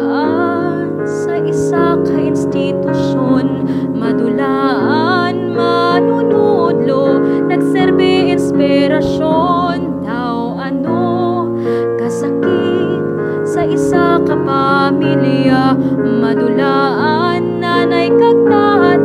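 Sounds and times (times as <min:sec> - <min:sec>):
person singing with vibrato: 0:00.0 - 0:19.0
piano accompaniment: 0:00.0 - 0:19.0.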